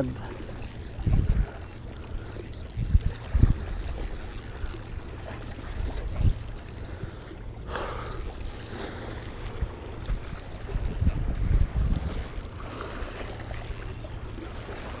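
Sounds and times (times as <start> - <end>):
wind buffeting microphone: 0.0 - 7.2, 8.1 - 15.0.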